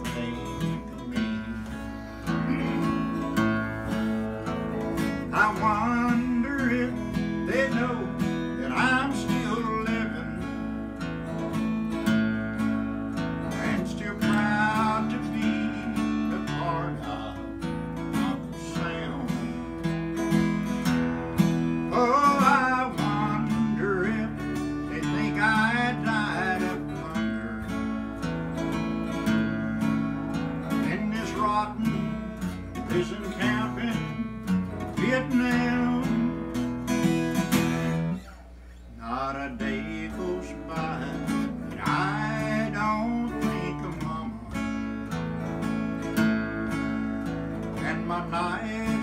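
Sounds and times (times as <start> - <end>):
picked guitar melody: 0.0 - 49.0
strummed acoustic guitar chords: 0.0 - 49.0.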